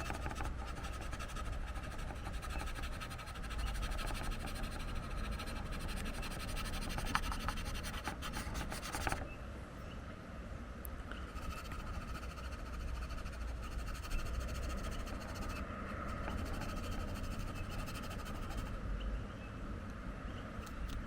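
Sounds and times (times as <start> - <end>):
faint high hum: 0.0 - 21.0.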